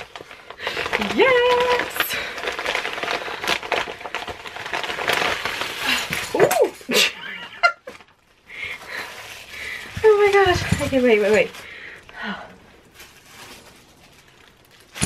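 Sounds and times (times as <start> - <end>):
plastic mailing bag crinkling: 0.0 - 15.0.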